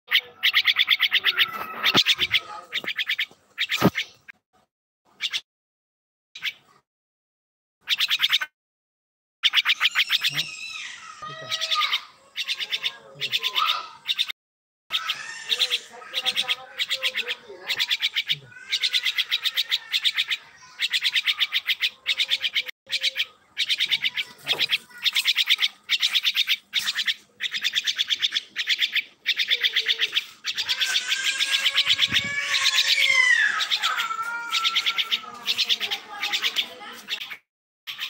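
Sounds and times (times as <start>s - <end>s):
myna rattling chatter: 0.1s - 4.3s, 9.6s - 14.3s, 14.9s - 38.0s.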